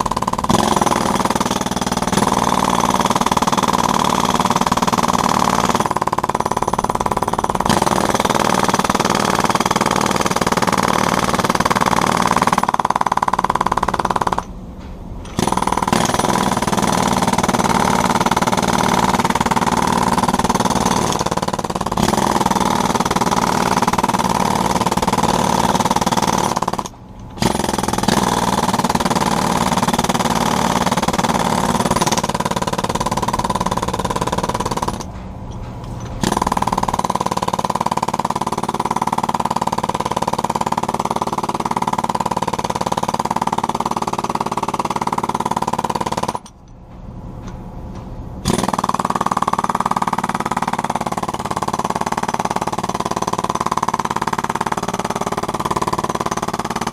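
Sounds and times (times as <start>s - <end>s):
jackhammer breaking concrete: 0.0s - 14.5s, 15.3s - 35.1s, 36.2s - 46.6s, 48.4s - 56.9s.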